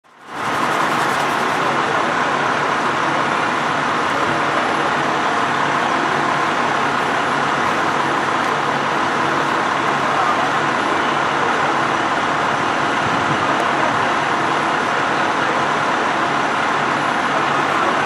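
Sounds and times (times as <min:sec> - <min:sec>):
fire engines running: 0:00.0 - 0:18.0.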